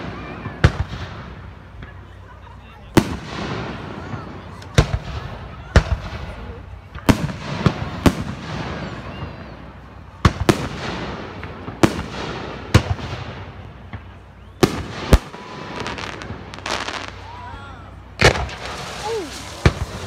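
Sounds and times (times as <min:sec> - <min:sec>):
firework crackling: 0:00.0 - 0:20.0.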